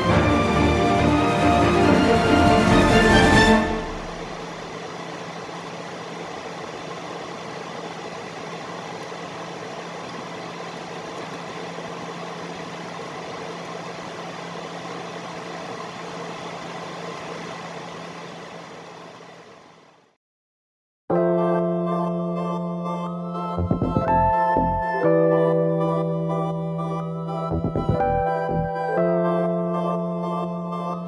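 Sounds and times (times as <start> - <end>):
low hum: 0.0 - 19.6, 22.0 - 31.0.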